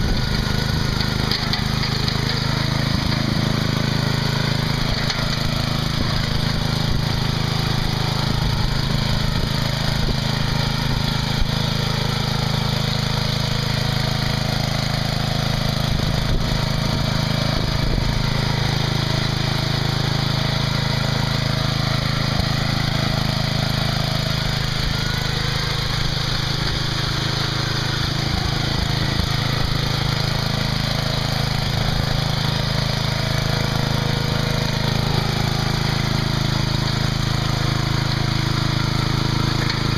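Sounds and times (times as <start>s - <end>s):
riding lawn mower engine running: 0.0s - 39.9s.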